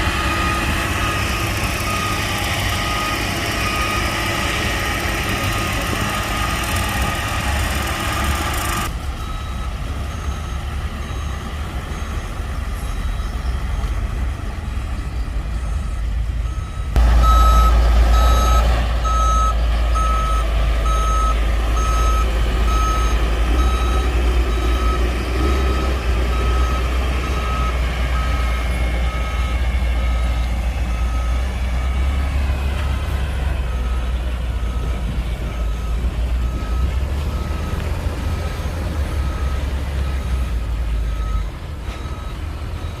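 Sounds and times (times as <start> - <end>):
reversing alarm beeping: 0.0 - 14.2, 15.0 - 43.0
diesel engine running: 0.0 - 43.0.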